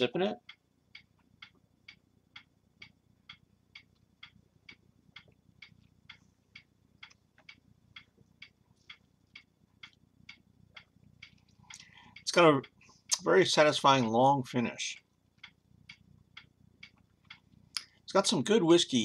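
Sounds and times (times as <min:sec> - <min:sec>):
clock ticking: 0:00.0 - 0:18.5
low room hum: 0:00.0 - 0:19.0.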